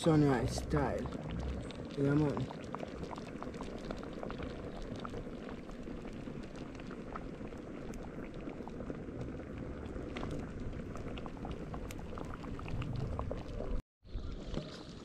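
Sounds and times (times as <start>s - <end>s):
soup boiling with pops: 0.0s - 15.0s.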